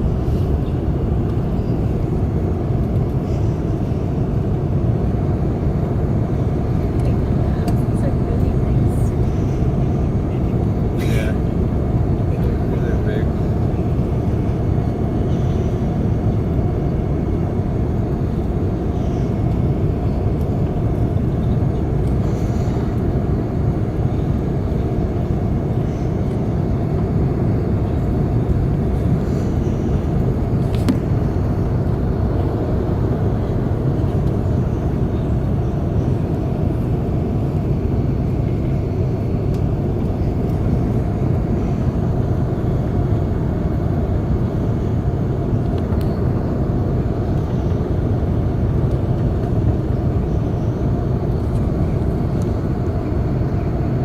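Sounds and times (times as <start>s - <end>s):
airplane cabin roar: 0.0s - 54.0s.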